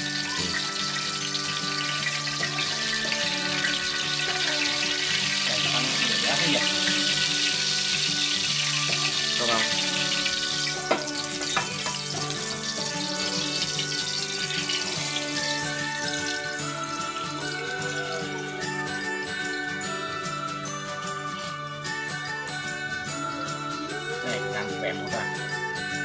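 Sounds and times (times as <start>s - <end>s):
oil sizzling in a frying pan: 0.0s - 24.4s
background music: 0.0s - 26.0s.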